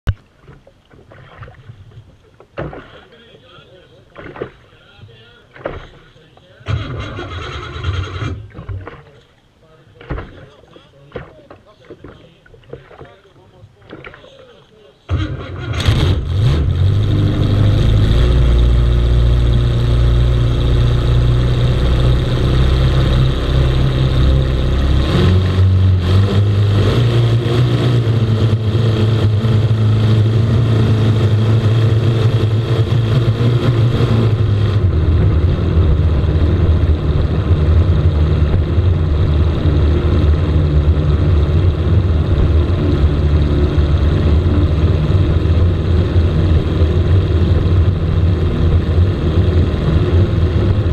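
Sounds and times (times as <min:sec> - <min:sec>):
boat engine revving: 0:02.6 - 0:09.2, 0:15.1 - 0:50.9.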